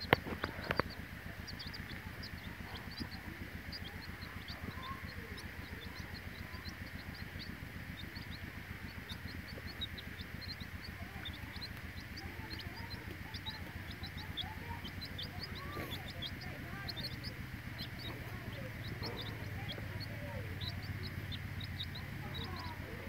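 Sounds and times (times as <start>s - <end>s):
chicks peeping: 0.0s - 23.0s
steady low hum: 0.0s - 23.0s.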